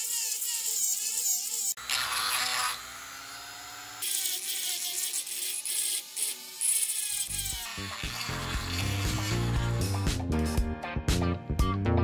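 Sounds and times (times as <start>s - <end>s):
rotary tool grinding plastic: 0.0s - 9.8s.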